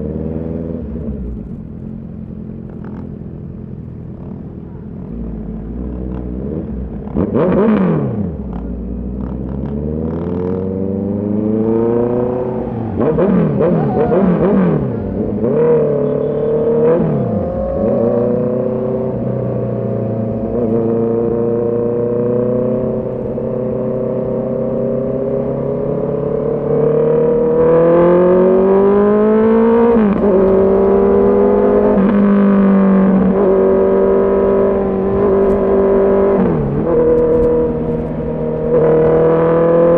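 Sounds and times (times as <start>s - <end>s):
motorcycle engine revving: 4.0s - 39.9s.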